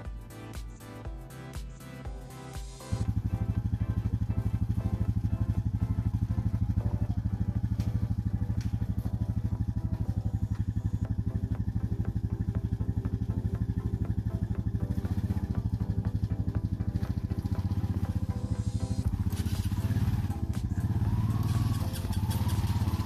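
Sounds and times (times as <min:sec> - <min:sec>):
atv engine idling: 0:00.0 - 0:23.0.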